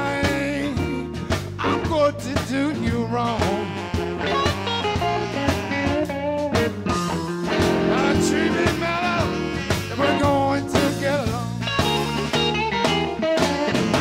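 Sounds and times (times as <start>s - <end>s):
guitar with bent notes: 0.0s - 14.0s
steady beat: 0.0s - 14.0s
upright bass: 0.0s - 14.0s.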